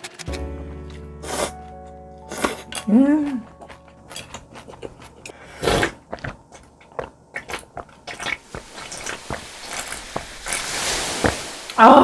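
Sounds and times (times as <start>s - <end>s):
person chewing with crunches: 1.2s - 11.8s.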